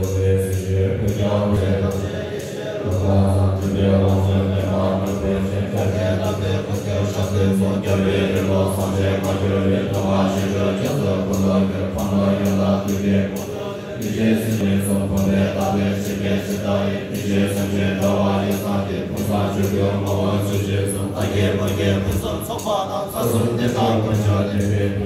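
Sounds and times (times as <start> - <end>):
monks chanting in unison: 0.0 - 25.0.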